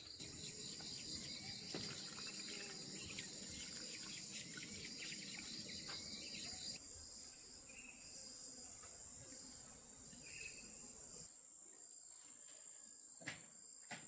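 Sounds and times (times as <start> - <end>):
crickets chirring: 0.0 - 11.3.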